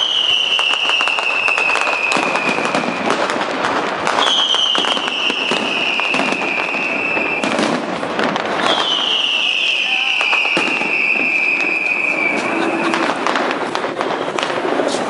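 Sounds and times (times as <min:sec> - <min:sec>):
firework whistle: 0:00.0 - 0:15.0
fireworks crackling and popping: 0:00.0 - 0:15.0.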